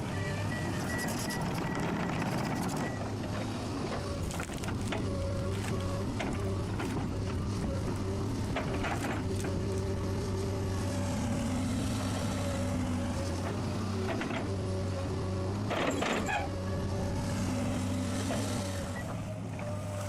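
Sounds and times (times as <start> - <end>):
wood-processing machine humming: 0.0 - 20.0.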